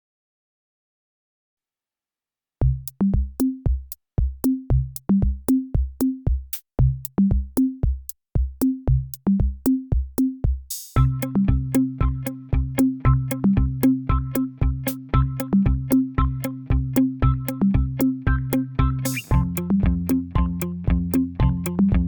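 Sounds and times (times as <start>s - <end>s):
drum machine beat: 2.6s - 22.0s.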